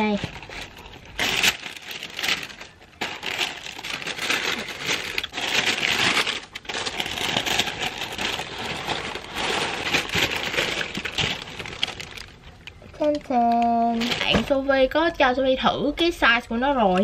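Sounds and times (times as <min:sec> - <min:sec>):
tissue paper rustling: 0:00.0 - 0:12.6, 0:13.4 - 0:14.6.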